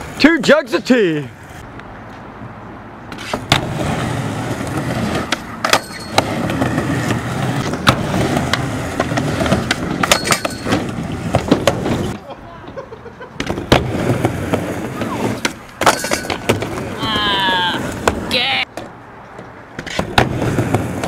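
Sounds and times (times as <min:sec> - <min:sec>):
skateboard wheels rolling: 0:03.0 - 0:21.0.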